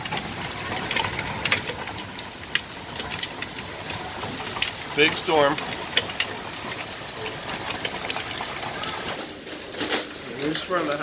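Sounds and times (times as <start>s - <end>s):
hailstones clicking on wood: 0.0s - 11.0s
heavy rain hissing: 0.0s - 11.0s.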